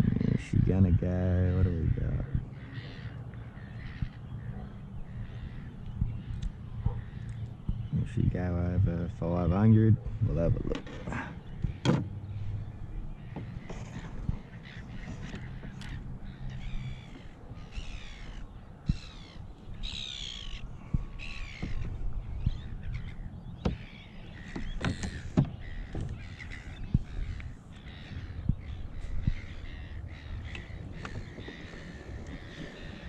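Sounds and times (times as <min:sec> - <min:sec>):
crow-like bird cawing: 0:02.4 - 0:07.4, 0:11.1 - 0:33.0.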